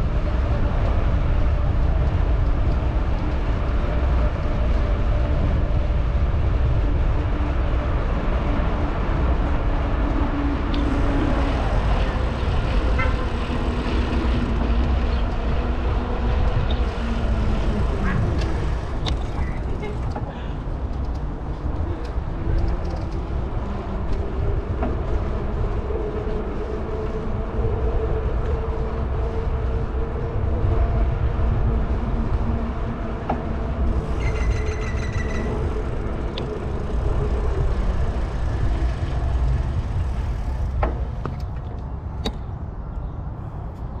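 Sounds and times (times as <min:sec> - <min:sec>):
bicycle tyre noise: 0:00.0 - 0:42.2
wind buffeting microphone: 0:00.0 - 0:44.0.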